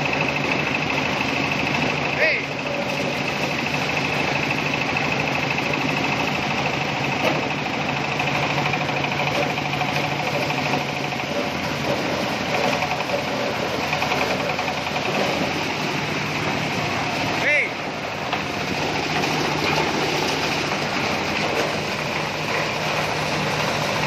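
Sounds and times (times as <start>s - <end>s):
corn sheller engine running: 0.0s - 24.0s.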